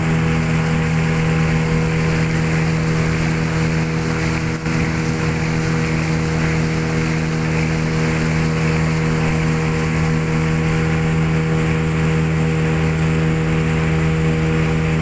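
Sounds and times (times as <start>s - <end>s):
motorboat engine hum: 0.0s - 15.0s.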